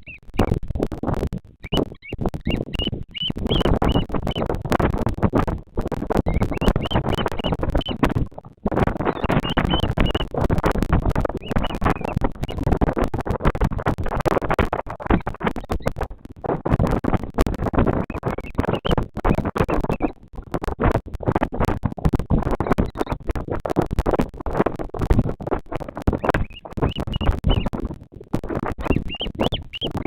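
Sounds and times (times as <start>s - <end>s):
rapid crackling and scratching: 0.0s - 30.0s.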